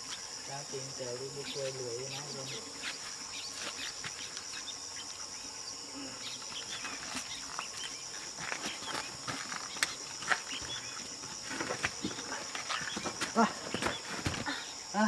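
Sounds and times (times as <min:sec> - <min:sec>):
insect chirps and clicks: 0:00.0 - 0:15.0
insect trill: 0:00.0 - 0:15.0.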